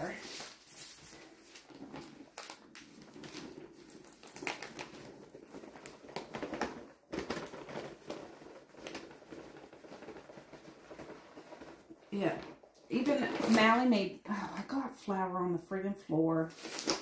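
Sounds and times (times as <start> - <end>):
paper sack rustling: 0.0 - 13.9, 16.5 - 17.0.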